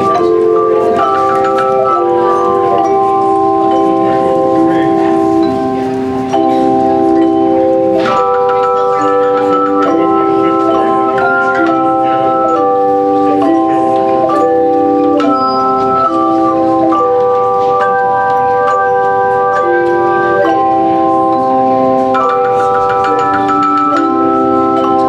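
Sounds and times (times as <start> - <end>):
handchimes ringing chords: 0.0 - 25.0.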